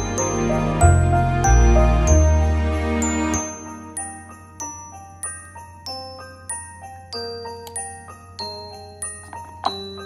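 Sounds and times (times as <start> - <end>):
christmas music glockenspiel melody: 0.0 - 10.0.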